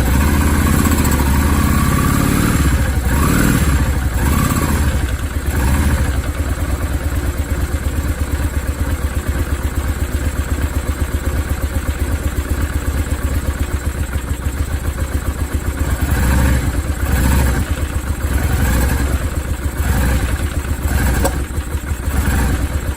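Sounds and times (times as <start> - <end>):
engine rattling noise: 0.0 - 8.7, 12.3 - 22.9
motorcycle engine running: 0.0 - 22.9.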